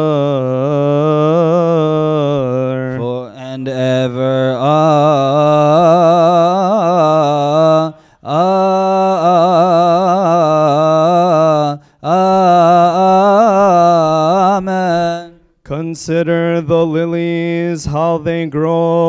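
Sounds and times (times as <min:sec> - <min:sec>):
man chanting a hymn: 0:00.0 - 0:19.0.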